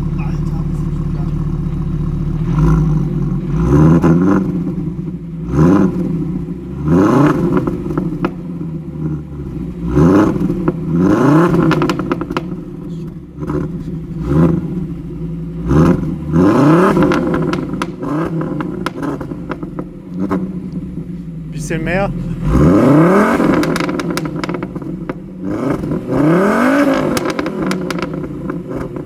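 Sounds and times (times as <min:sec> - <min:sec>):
turbo engine revving: 0:00.0 - 0:29.0.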